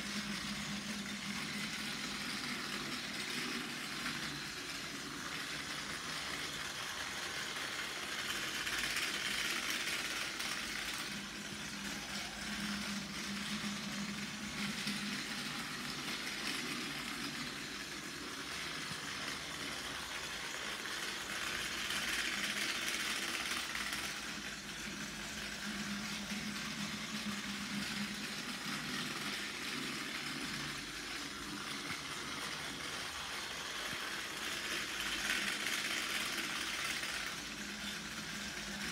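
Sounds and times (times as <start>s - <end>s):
toy train motor whirring: 0.0s - 38.9s.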